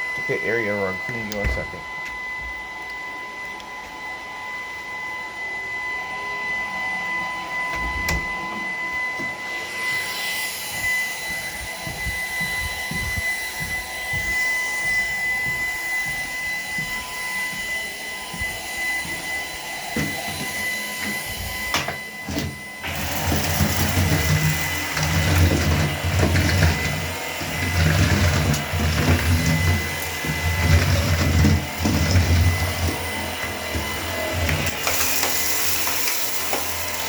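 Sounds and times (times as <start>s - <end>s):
robot vacuum whining: 0.0s - 37.0s.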